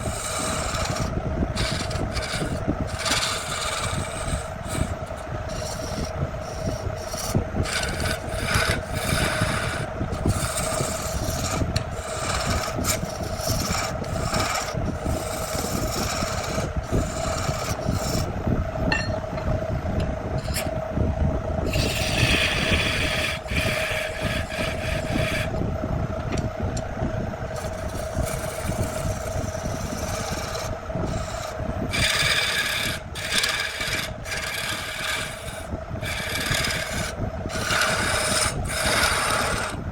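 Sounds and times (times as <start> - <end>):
abrasive rasping against wood: 0.0 - 18.4, 21.7 - 25.6, 27.5 - 39.8.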